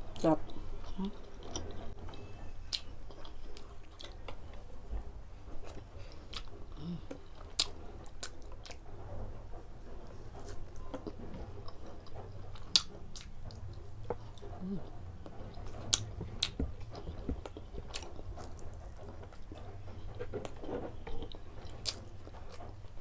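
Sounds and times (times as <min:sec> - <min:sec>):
chewing and biting food: 0:00.1 - 0:23.0.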